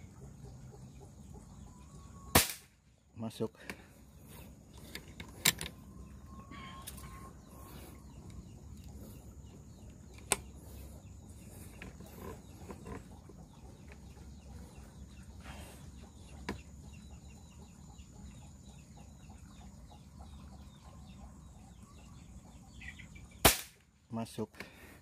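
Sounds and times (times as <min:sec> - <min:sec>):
faint bird calls: 0:03.2 - 0:23.5.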